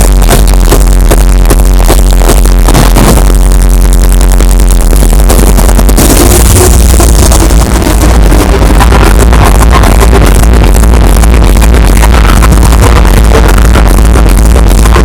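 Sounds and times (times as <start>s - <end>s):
hardstyle dance music: 0.0s - 15.0s.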